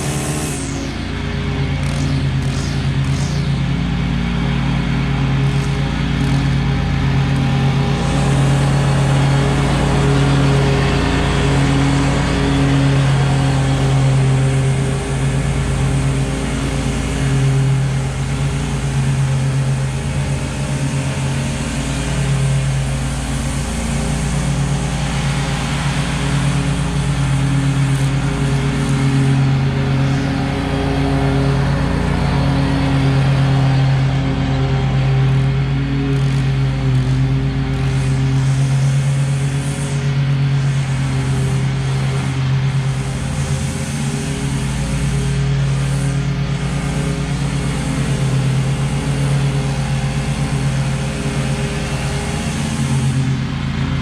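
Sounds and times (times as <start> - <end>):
mower engine running: 0.0 - 54.0.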